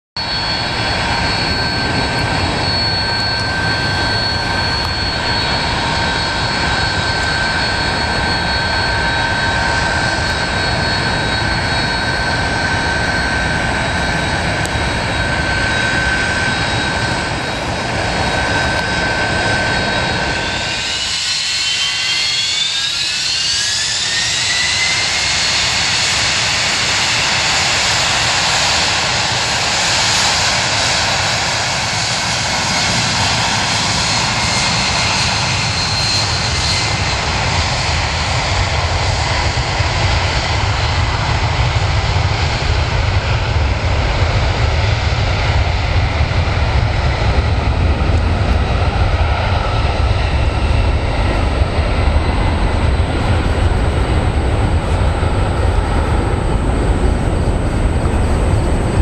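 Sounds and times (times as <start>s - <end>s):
deep rumble of takeoff roll: 0.2s - 59.0s
jet engines spooling up: 0.2s - 59.0s.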